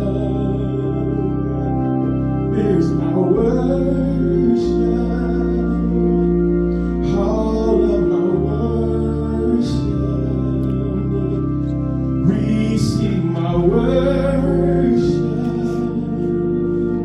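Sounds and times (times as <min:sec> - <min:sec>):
organ holding chords: 0:00.0 - 0:17.0
person singing: 0:00.0 - 0:17.0.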